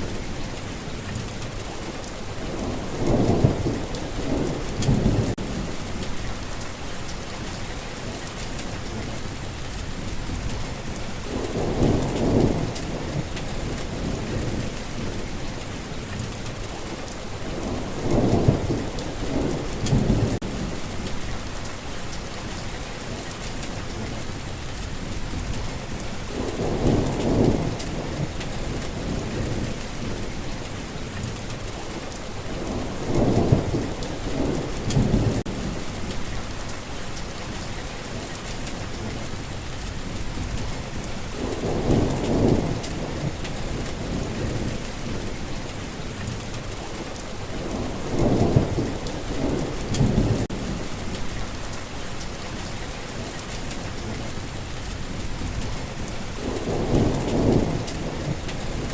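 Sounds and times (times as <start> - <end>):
low rolls of thunder: 0.0 - 58.9
steady rain falling: 0.0 - 58.9.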